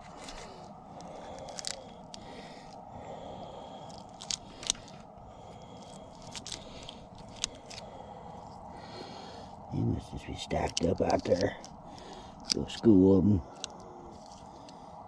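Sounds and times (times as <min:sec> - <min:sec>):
bait scraping and crunching: 0:00.0 - 0:15.0
steady background hiss: 0:00.0 - 0:15.0.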